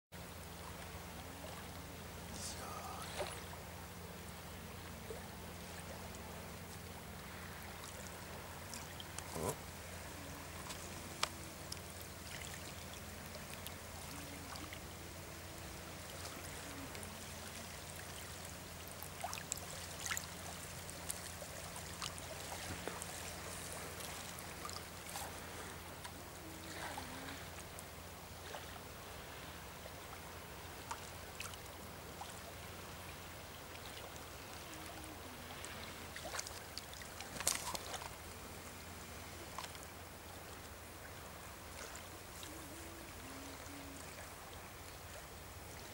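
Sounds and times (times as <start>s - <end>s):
steady low hum: 0.2s - 45.9s
waves lapping on rocks: 0.5s - 45.9s.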